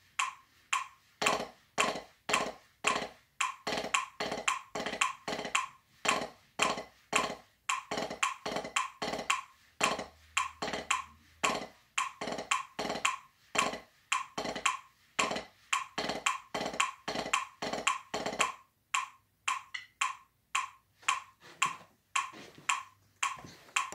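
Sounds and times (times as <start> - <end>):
drumsticks striking practice pad: 0.2 - 22.4.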